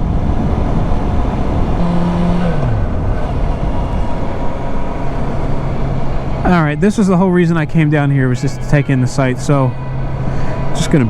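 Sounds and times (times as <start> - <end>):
heavy wind rush: 0.0 - 11.0
motorcycle engine running: 0.0 - 11.0.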